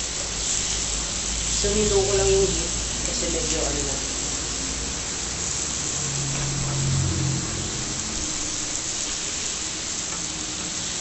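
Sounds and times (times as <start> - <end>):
food sizzling on grill pan: 0.0 - 11.0.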